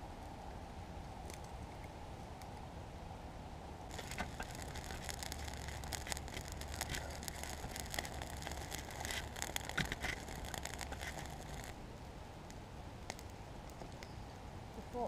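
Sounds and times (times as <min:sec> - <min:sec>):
wood fire crackling and popping: 0:01.0 - 0:02.6, 0:03.9 - 0:15.0.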